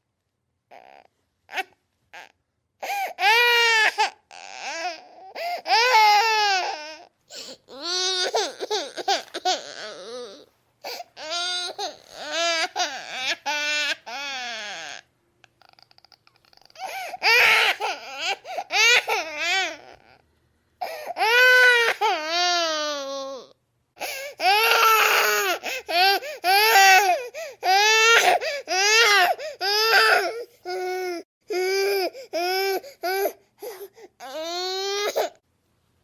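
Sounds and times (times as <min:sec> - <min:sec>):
baby crying: 0:00.7 - 0:20.2, 0:20.8 - 0:35.4.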